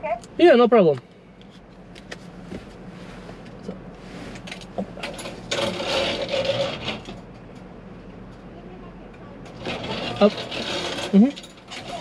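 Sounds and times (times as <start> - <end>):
mechanical whir with hum: 0.0 - 12.0.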